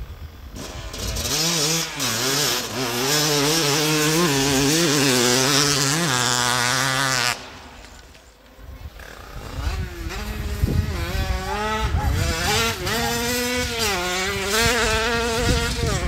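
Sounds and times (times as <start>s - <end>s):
moped two-stroke engine revving: 0.0s - 8.1s, 8.8s - 16.0s.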